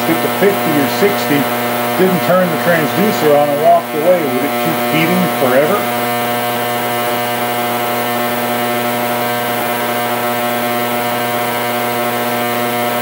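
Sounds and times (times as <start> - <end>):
ultrasonic cleaner buzzing hum: 0.0 - 13.0.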